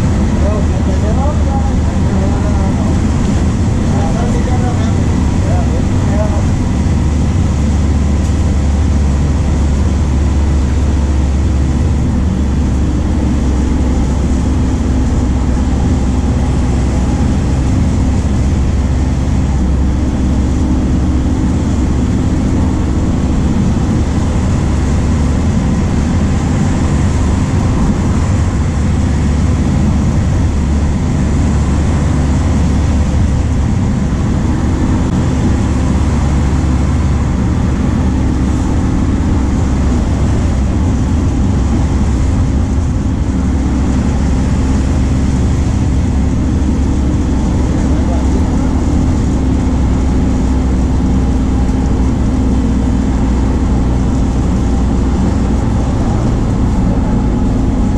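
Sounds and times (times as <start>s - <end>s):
diesel bus engine drone: 0.0s - 57.9s.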